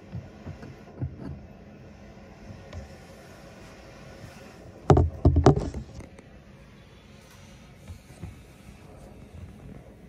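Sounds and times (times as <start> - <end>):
faint room hum: 0.0 - 10.0.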